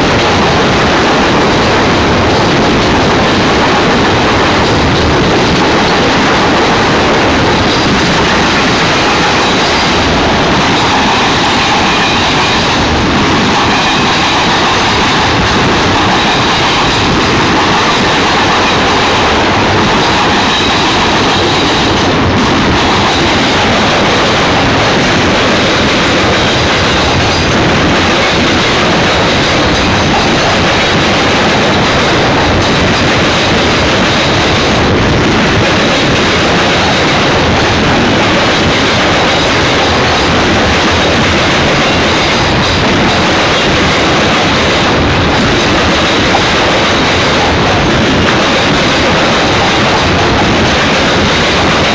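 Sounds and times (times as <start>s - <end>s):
freight cars rumbling on rails: 0.0s - 51.9s.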